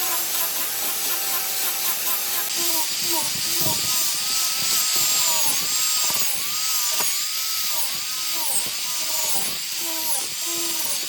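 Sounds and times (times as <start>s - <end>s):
power tool motor whining: 0.0s - 11.0s.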